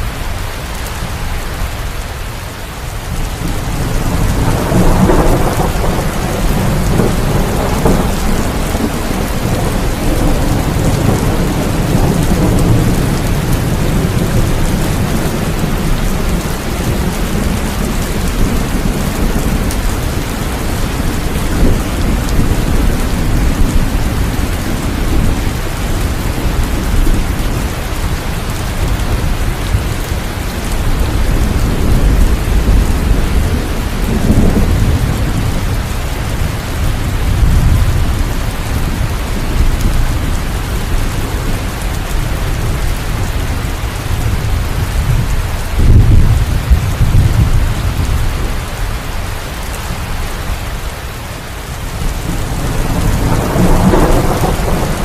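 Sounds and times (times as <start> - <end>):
heavy rain hissing: 0.0 - 55.0
rolling thunder: 3.1 - 48.6, 51.8 - 55.0.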